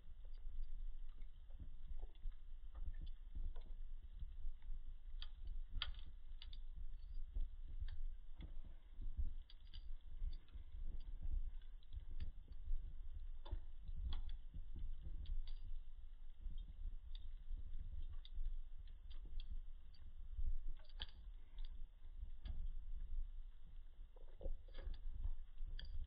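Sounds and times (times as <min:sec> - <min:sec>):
low steady rumble: 0:00.0 - 0:26.0
wood fire crackling: 0:00.0 - 0:26.0.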